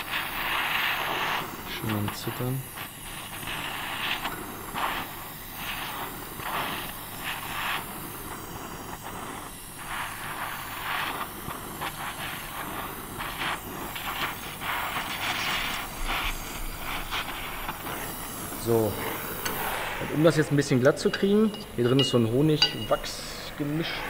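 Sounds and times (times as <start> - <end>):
gas torch flame hissing: 0.0 - 24.0.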